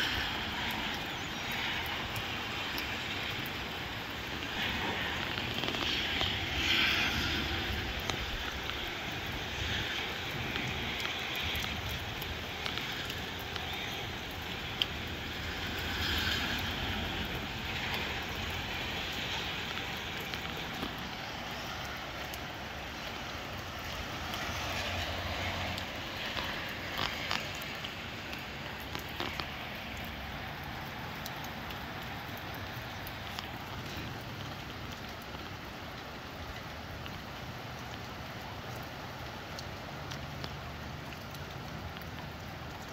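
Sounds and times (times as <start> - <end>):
gusty wind and rain rushing: 0.0 - 42.9.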